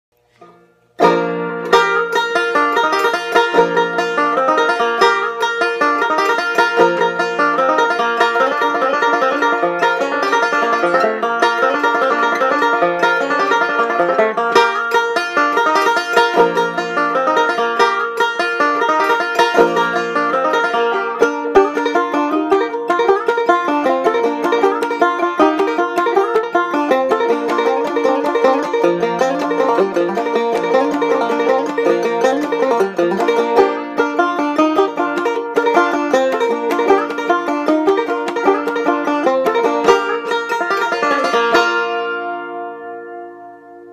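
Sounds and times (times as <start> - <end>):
plucked string instrument music: 0.1 - 43.9.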